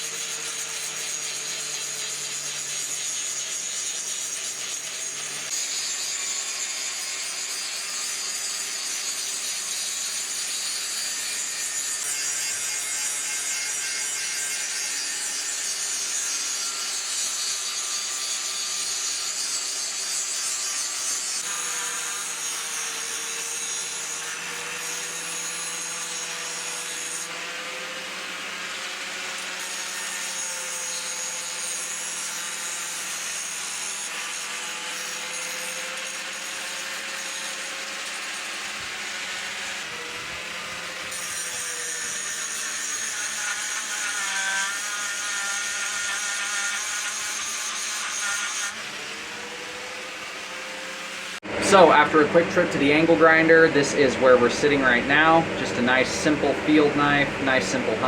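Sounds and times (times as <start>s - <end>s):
angle grinder grinding steel: 0.0s - 58.0s.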